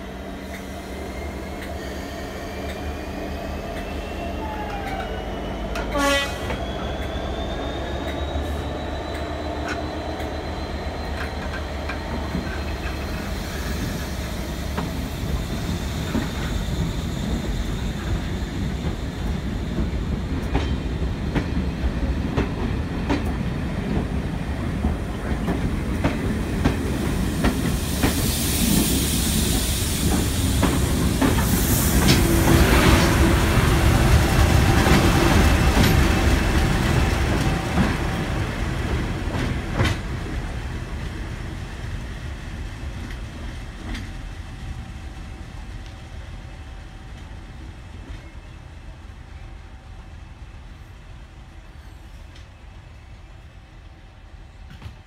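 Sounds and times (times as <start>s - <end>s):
diesel locomotive hiss and engine: 0.0s - 55.0s.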